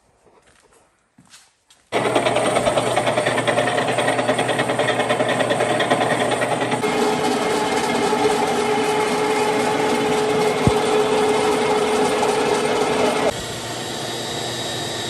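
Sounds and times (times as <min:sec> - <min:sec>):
floor grinder motor humming: 0:01.9 - 0:15.0.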